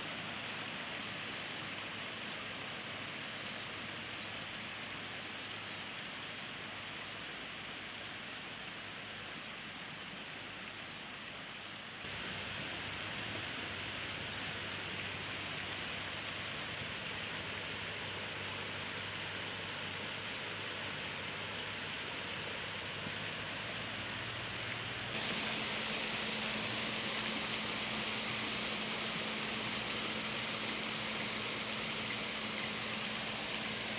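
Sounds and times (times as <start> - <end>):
steady outdoor hiss: 0.0 - 33.9.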